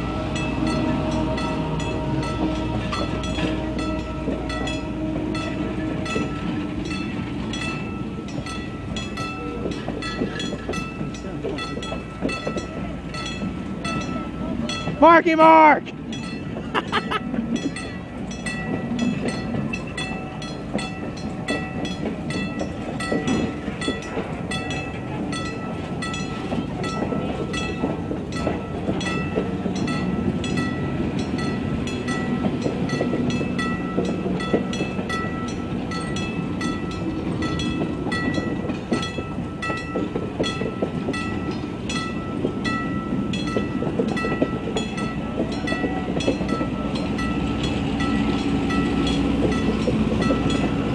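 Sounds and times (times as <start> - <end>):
train wheels rumbling and clicking: 0.0 - 15.0, 15.8 - 50.9
crossing bell ringing: 0.0 - 50.9.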